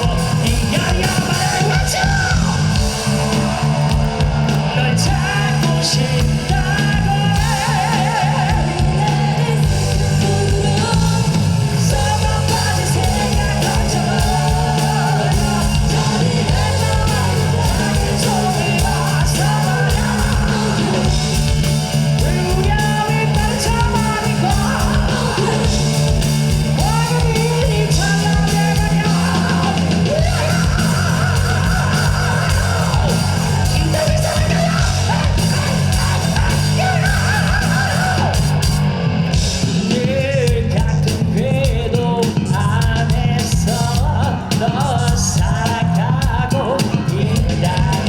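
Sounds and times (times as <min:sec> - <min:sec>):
person singing: 0:00.0 - 0:38.7
bass guitar: 0:00.0 - 0:48.0
drums: 0:00.0 - 0:48.0
electric guitar: 0:00.0 - 0:48.0.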